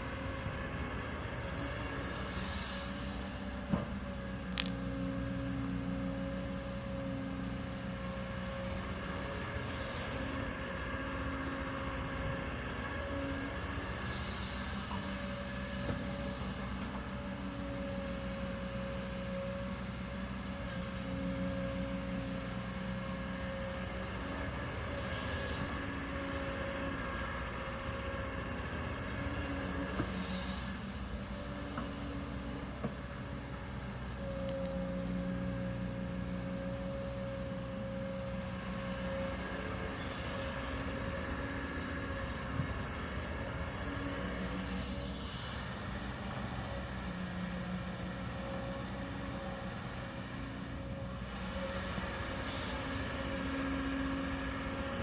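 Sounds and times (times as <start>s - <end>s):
excavator diesel engine drone: 0.0s - 55.0s.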